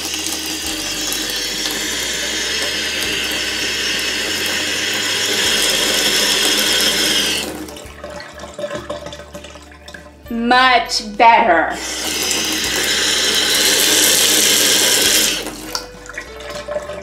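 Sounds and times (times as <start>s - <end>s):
water pouring into bathtub drain: 0.0s - 10.4s, 11.7s - 17.0s.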